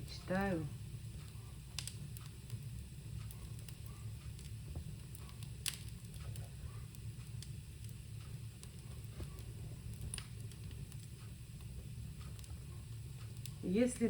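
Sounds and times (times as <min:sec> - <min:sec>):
fire crackling: 0:00.0 - 0:14.0
steady low hum: 0:00.0 - 0:14.0.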